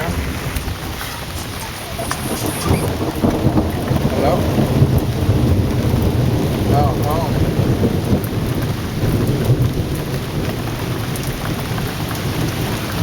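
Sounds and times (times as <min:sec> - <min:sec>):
heavy rain pouring: 0:00.0 - 0:13.0
low rolling thunder: 0:00.0 - 0:13.0.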